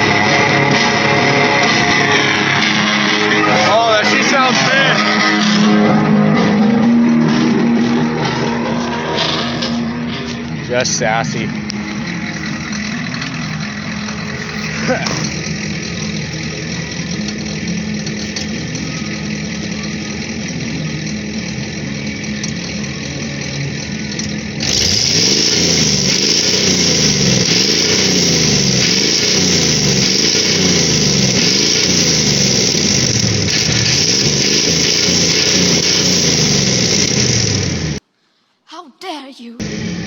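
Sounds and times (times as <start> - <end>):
diesel engine running: 0.0 - 38.0, 39.6 - 40.0.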